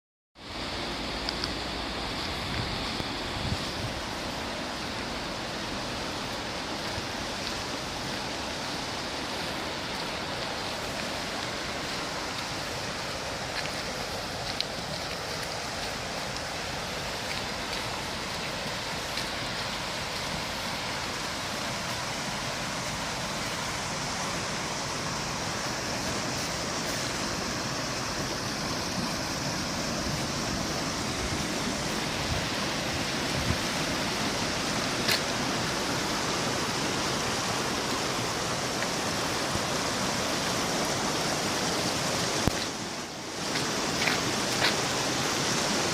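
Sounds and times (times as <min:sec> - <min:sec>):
running water rushing: 0:00.4 - 0:45.9.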